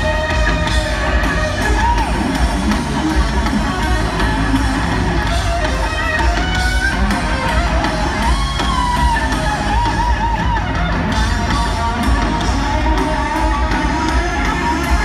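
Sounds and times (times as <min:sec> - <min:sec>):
electric guitar lead: 0:00.0 - 0:15.0
heavy metal band playing live: 0:00.0 - 0:15.0.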